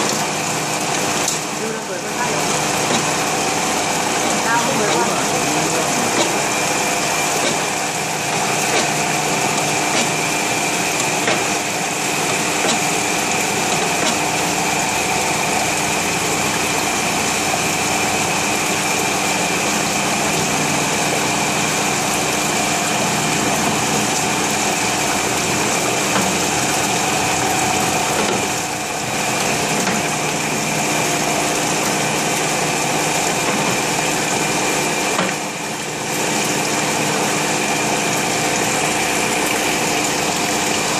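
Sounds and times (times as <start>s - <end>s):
steady machine hum: 0.0s - 40.9s.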